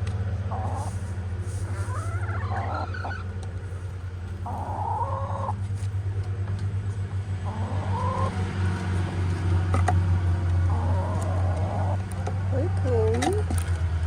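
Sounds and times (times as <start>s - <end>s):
hens calling: 0.4s - 6.3s, 7.4s - 13.4s.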